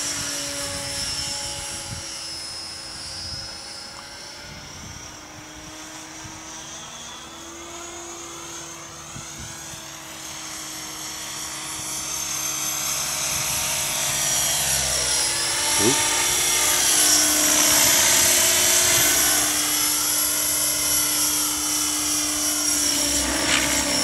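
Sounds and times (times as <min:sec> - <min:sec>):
rc helicopter motor whine: 0:00.0 - 0:24.0.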